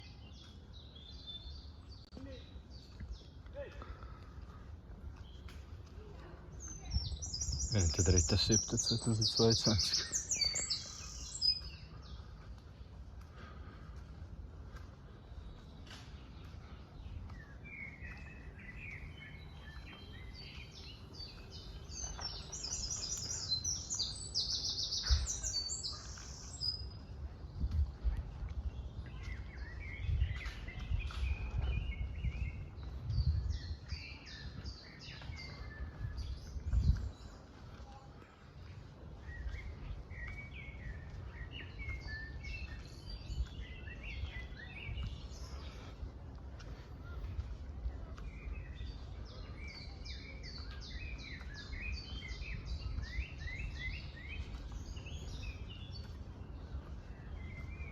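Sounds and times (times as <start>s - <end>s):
songbirds singing and chirping: 0.0s - 57.9s.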